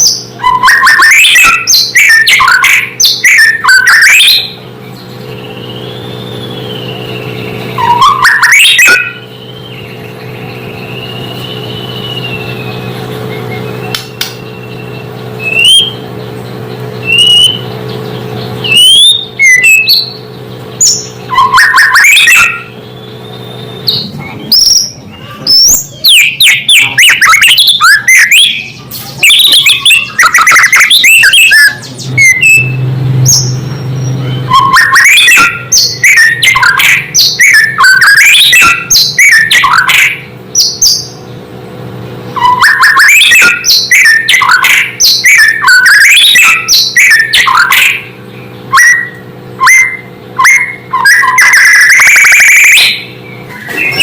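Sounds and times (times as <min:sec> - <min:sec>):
songbird whistling and chattering: 0:00.0 - 0:41.3, 0:42.3 - 0:54.0
steady low hum: 0:00.0 - 0:54.0.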